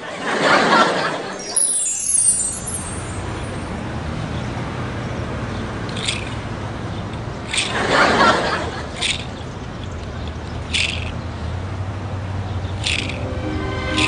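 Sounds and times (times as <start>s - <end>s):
low traffic hum: 0.0s - 14.0s.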